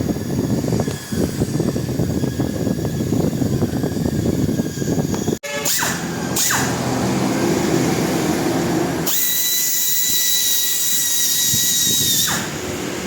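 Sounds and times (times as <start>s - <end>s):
high-pitched tool whine: 0.0s - 13.0s
rotary power tool grinding: 0.0s - 13.0s.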